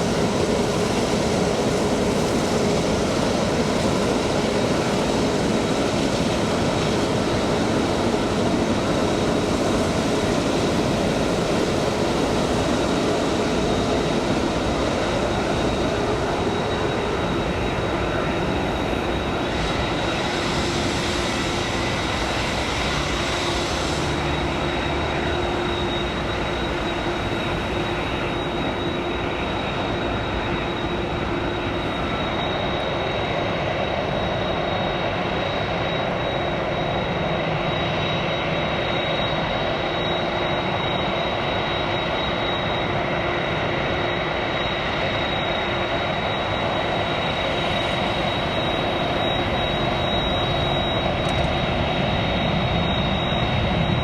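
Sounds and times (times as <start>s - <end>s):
jet engines idling with whine: 0.0s - 54.0s.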